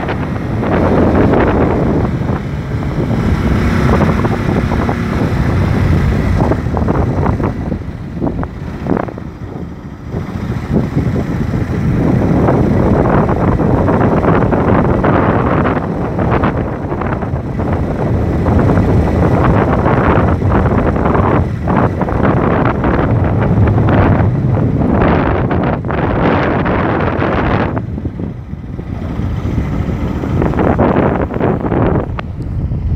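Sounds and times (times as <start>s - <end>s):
motorcycle engine: 0.0s - 32.9s
road noise: 0.0s - 32.9s
wind buffeting microphone: 0.0s - 32.9s.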